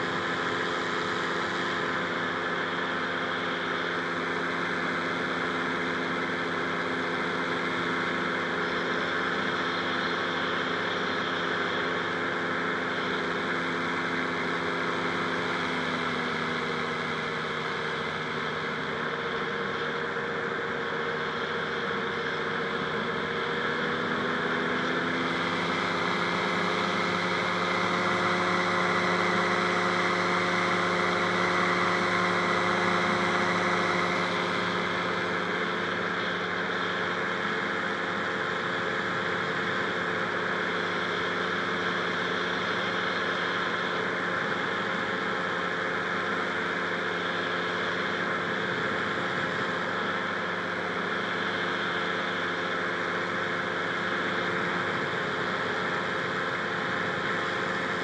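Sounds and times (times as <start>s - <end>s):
two-stroke engine running: 0.0s - 58.0s.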